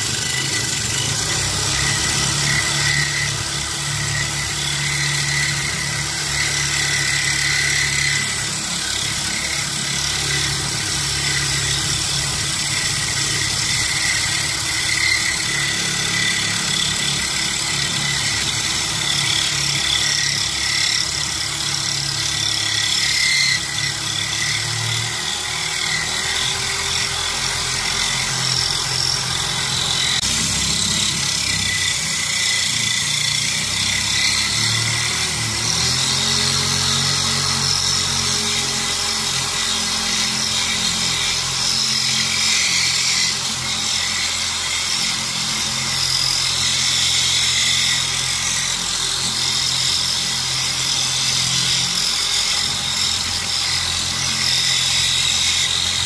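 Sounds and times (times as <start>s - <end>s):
electric drill grinding glass: 0.0s - 56.0s.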